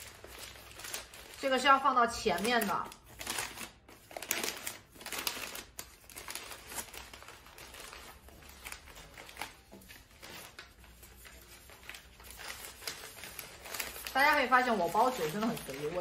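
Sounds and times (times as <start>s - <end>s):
wrapping paper crinkling: 0.0s - 16.0s.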